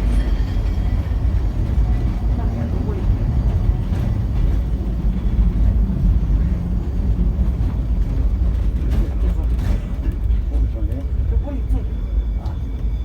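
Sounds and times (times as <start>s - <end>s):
tramcar running rumble: 0.0s - 13.0s.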